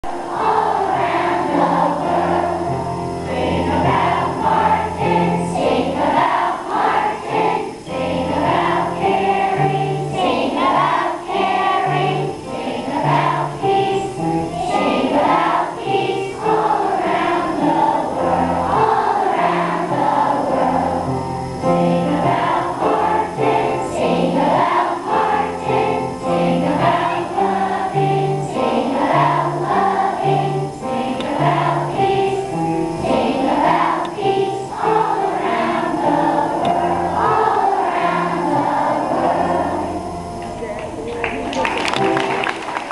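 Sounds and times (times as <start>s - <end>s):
children singing together: 0.0s - 40.7s.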